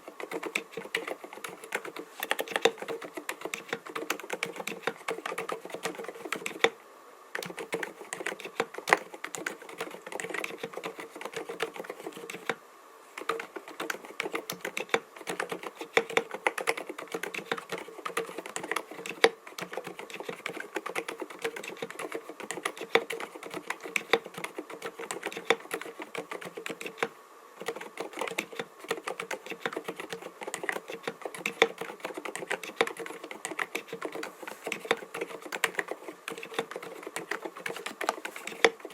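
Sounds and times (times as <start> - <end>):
typing on keyboard: 0.0 - 6.8, 7.4 - 12.6, 13.2 - 38.9.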